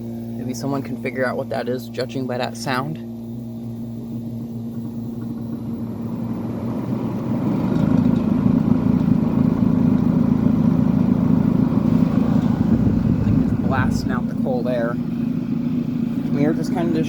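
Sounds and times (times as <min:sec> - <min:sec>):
air conditioner hum: 0:00.0 - 0:17.0
air rushing from vent: 0:03.3 - 0:17.0.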